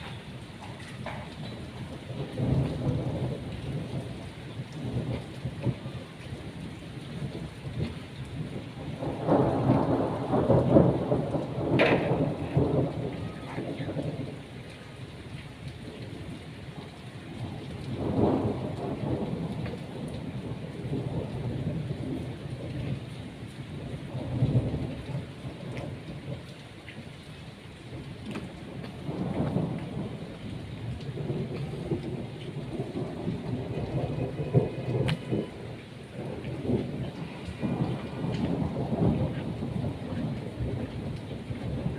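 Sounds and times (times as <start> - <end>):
rolling thunder: 0.0 - 26.5, 27.9 - 41.9
heavy rain pouring: 0.0 - 41.9.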